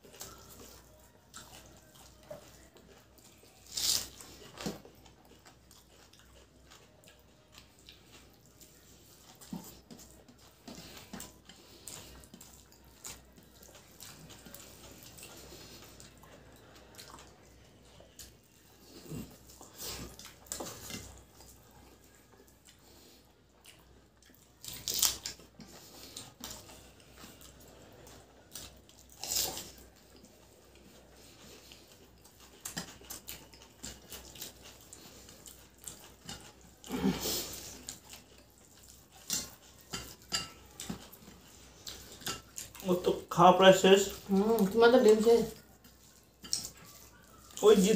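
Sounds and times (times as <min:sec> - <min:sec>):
eating noises: 0:00.0 - 0:47.9.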